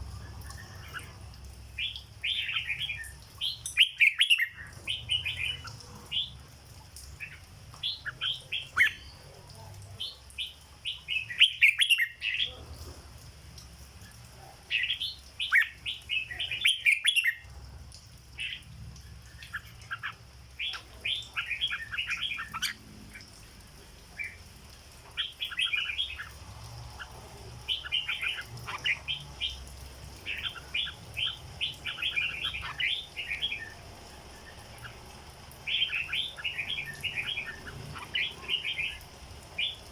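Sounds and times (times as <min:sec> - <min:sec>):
bird singing bubbly phrases: 0:00.0 - 0:17.6, 0:18.2 - 0:39.9.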